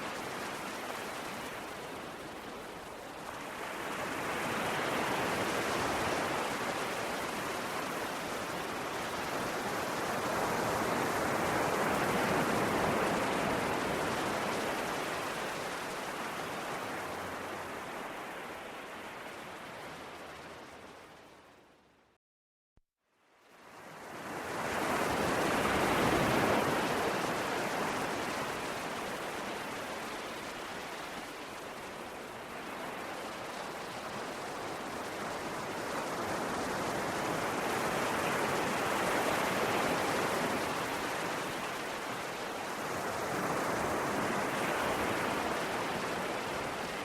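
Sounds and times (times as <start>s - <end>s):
surf washing ashore: 0.0s - 21.2s, 23.6s - 47.0s.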